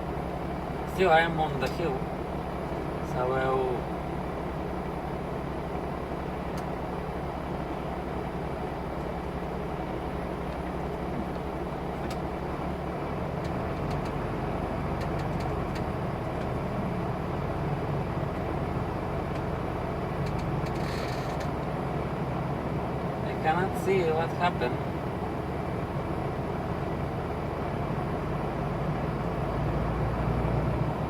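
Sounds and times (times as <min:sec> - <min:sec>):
road noise: 0:00.0 - 0:31.0
truck engine hum: 0:00.0 - 0:31.0.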